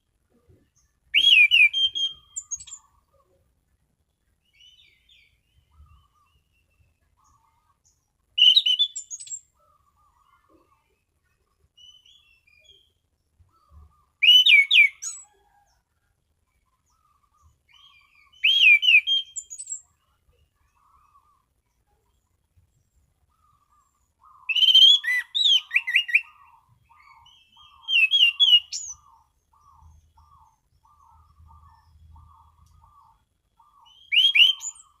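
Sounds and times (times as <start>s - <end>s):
soft bird twittering: 0.3s - 3.5s, 4.3s - 35.0s.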